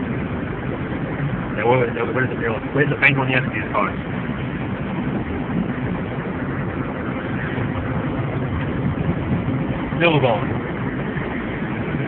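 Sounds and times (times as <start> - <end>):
car driving road noise: 0.0 - 12.0.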